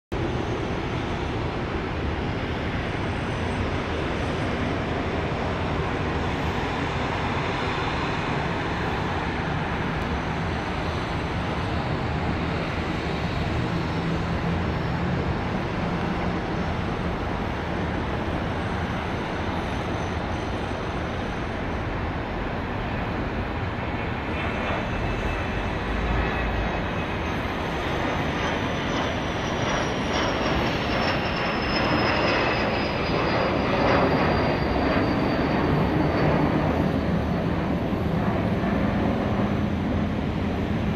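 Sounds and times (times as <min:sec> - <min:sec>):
jet engine high whine: 0:00.1 - 0:40.9
jet engine roar: 0:00.2 - 0:40.9.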